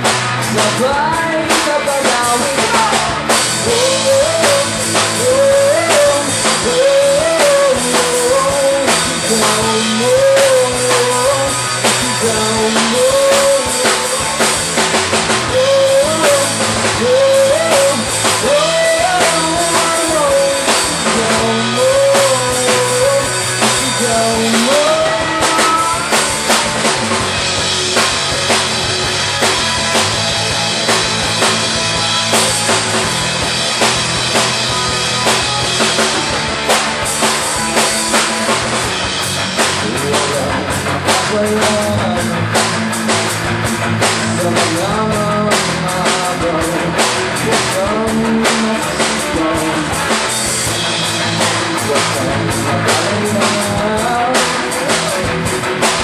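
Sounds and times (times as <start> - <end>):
bass guitar: 0.0 - 56.0
drum kit beat: 0.0 - 56.0
electric guitars: 0.0 - 56.0.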